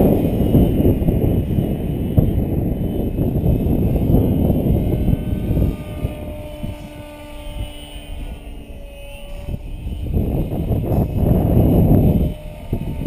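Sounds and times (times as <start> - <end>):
electric rc helicopter whine: 0.0 - 13.0
wind buffeting microphone: 0.0 - 13.0.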